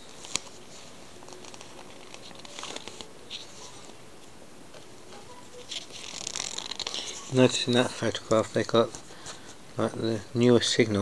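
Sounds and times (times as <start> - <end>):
magazine pages rustling: 0.0 - 4.3, 5.5 - 10.1.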